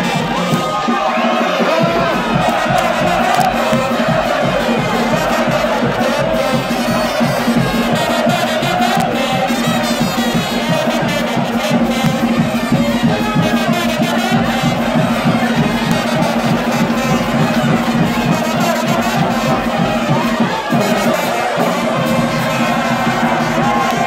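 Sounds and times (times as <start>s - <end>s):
brass band playing dance tune: 0.0s - 24.0s.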